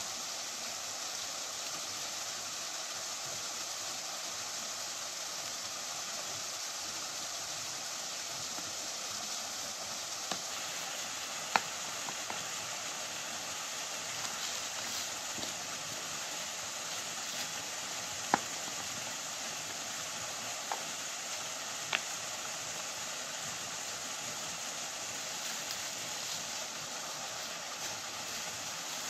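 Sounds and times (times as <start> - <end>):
waterfall pouring over rocks: 0.0 - 29.0.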